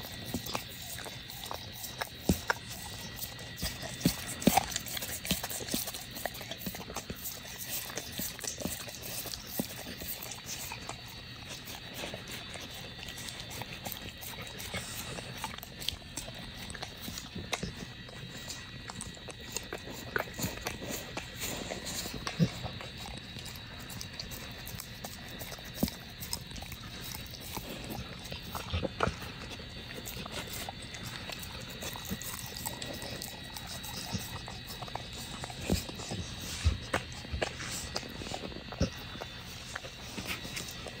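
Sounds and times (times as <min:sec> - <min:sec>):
dog licking and chewing: 0:00.0 - 0:41.0.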